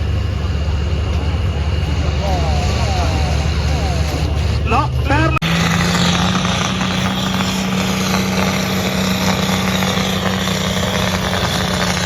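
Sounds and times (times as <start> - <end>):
tractor engine running loud: 0.0 - 12.0.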